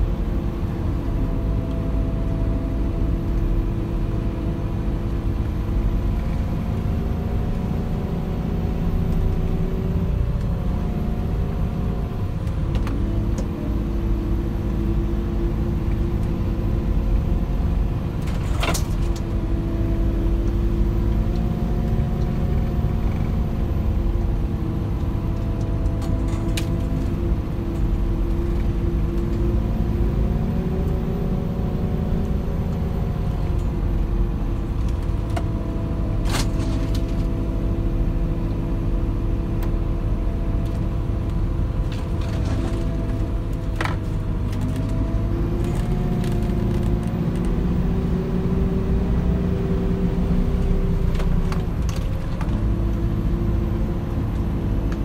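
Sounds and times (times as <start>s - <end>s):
snow groomer engine running: 0.0s - 55.0s.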